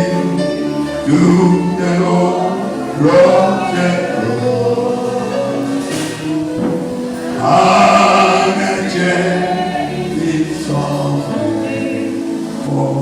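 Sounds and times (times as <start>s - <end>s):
group singing gospel song: 0.0s - 13.0s.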